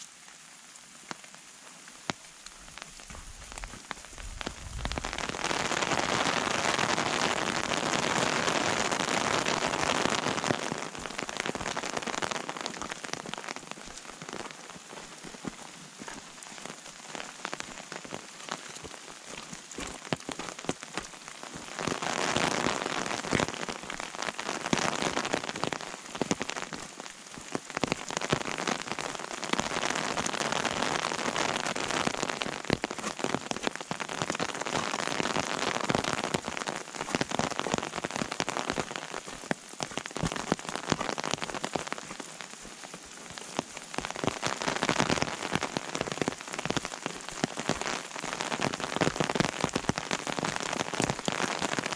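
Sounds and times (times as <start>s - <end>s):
rain pattering: 0.0s - 51.9s.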